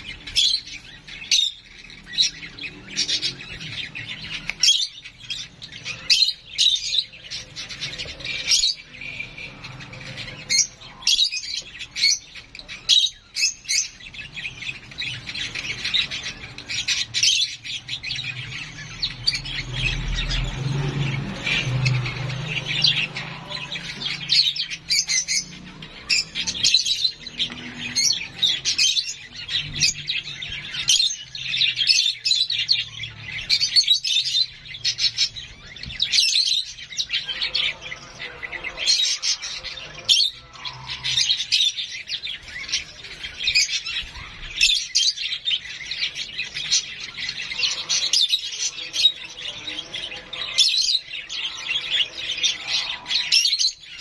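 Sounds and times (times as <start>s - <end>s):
bird chick squawking and chirping: 0.0s - 54.0s.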